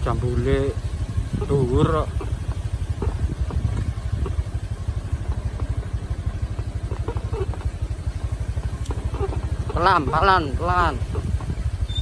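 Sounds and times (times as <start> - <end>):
engine running with low throb: 0.0 - 12.0.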